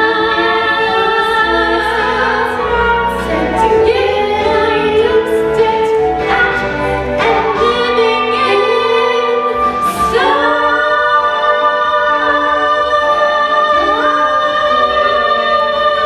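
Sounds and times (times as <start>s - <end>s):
voices singing with accompaniment: 0.0s - 16.0s.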